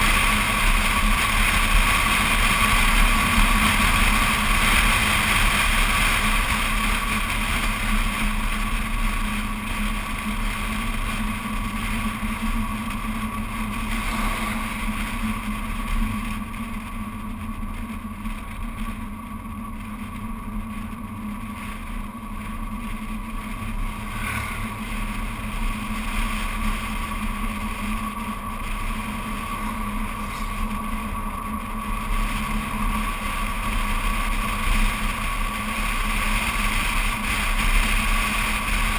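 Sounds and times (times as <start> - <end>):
wind rush: 0.0 - 17.7, 19.4 - 38.9
tyre and engine noise: 0.0 - 38.9.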